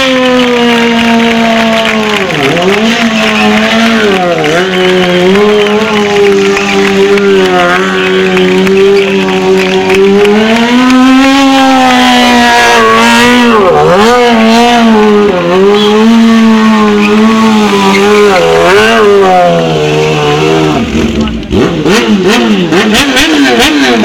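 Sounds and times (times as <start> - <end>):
motorcycle engine revving high: 0.0 - 24.0.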